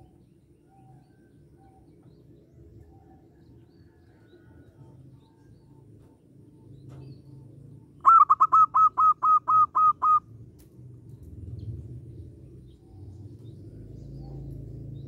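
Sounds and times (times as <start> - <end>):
dove singing clipped notes: 0.0 - 15.0.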